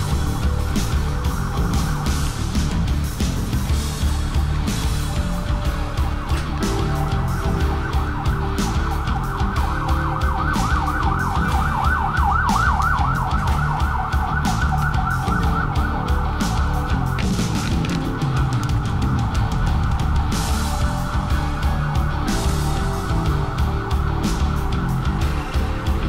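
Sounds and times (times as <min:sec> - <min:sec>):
rock music with a beat: 0:00.0 - 0:26.0
siren-like wail: 0:00.0 - 0:26.0.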